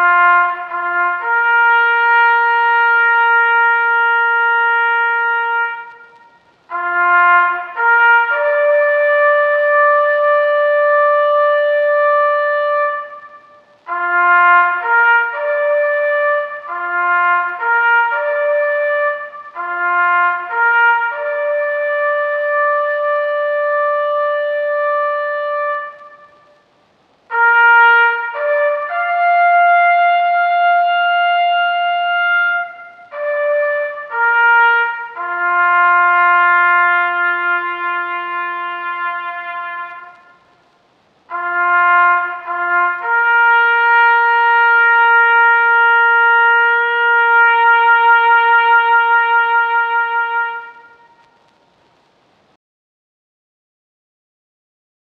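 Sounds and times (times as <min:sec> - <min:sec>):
trumpet playing: 0:00.0 - 0:40.7, 0:41.3 - 0:51.6.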